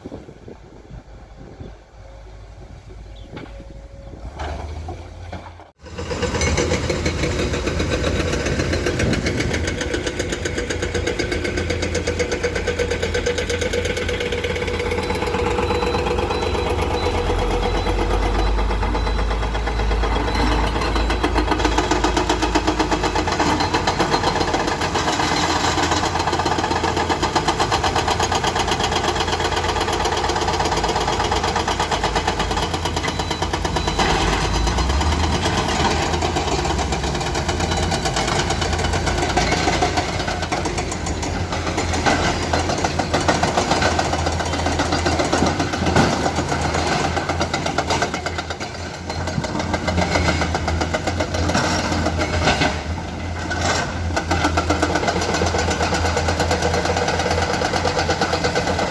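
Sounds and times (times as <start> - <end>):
heavy diesel machinery running: 0.0 - 58.9.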